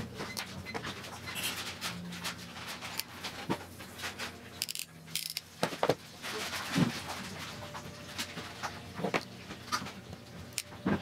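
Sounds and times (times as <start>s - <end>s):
wire leads clicking and rustling: 0.0s - 11.0s.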